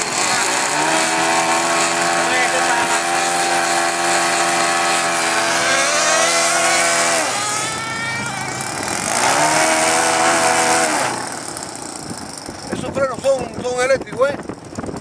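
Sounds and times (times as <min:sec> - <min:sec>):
small model engine revving: 0:00.0 - 0:12.9.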